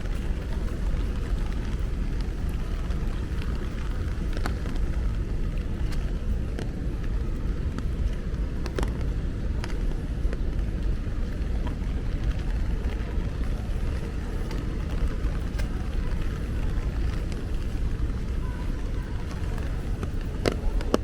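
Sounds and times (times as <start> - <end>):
sharp rain ticks: 0.0 - 21.0
steady low street rumble: 0.0 - 21.0.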